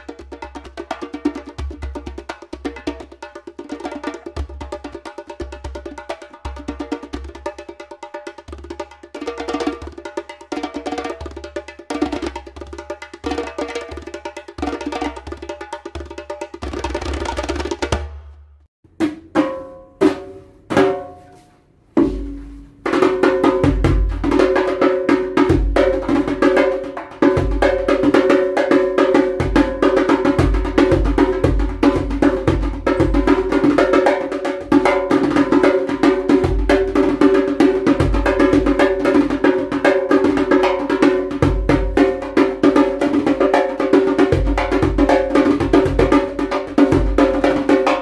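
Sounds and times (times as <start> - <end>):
djembe played by hand: 0.0 - 18.2, 19.0 - 21.2, 22.0 - 48.0.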